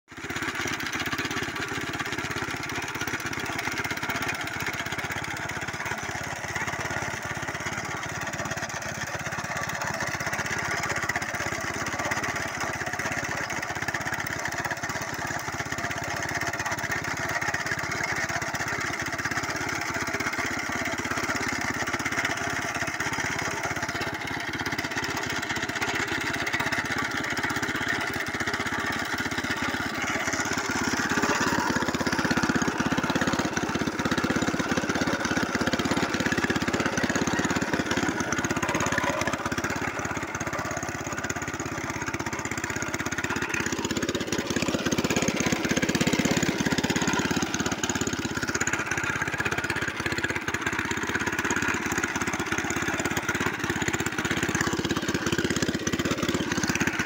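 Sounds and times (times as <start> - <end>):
mower engine running: 0.1 - 57.0.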